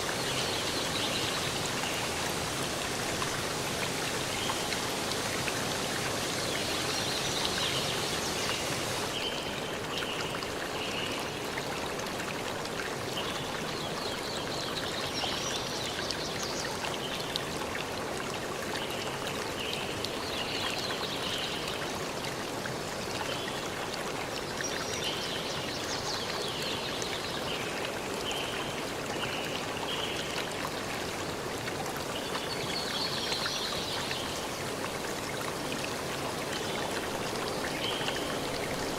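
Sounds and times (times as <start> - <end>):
forest stream rushing: 0.0 - 38.9.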